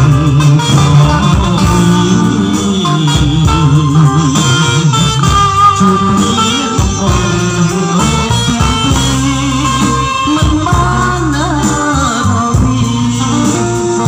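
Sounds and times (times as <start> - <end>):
bass line: 0.0 - 14.0
electric guitar line: 0.0 - 14.0.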